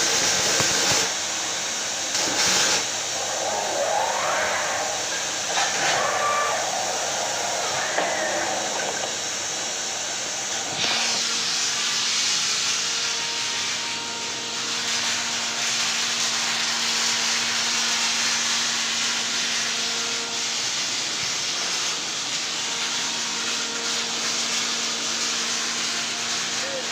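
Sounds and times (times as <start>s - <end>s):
welding hiss: 0.0s - 26.9s.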